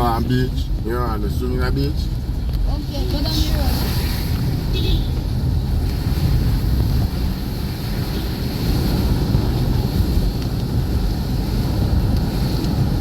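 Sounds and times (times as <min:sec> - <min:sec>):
vehicle driving rumble: 0:00.0 - 0:13.0
wind buffeting microphone: 0:00.0 - 0:13.0.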